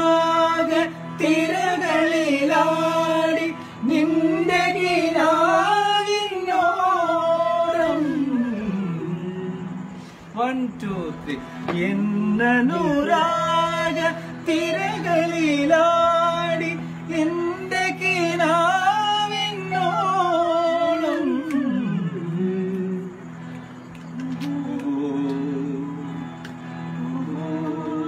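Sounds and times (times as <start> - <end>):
harmonium drone: 0.0 - 28.0.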